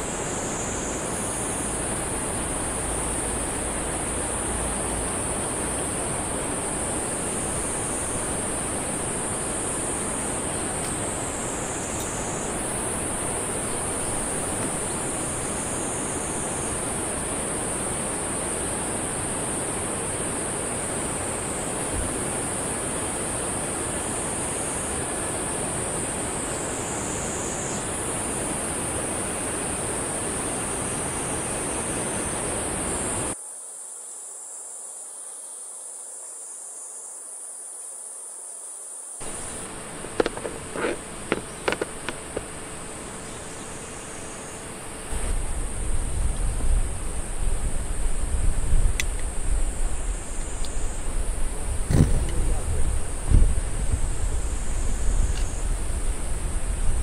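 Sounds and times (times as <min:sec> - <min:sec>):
steady rushing noise: 0:00.0 - 0:33.4, 0:39.2 - 0:57.0
insect chorus: 0:00.0 - 0:57.0.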